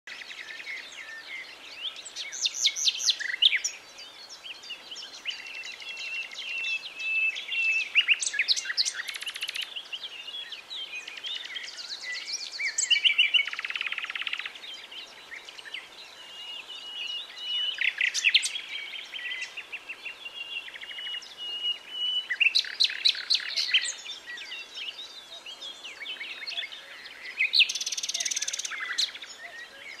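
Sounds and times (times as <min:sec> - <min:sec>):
nightingale singing: 0:00.1 - 0:30.0.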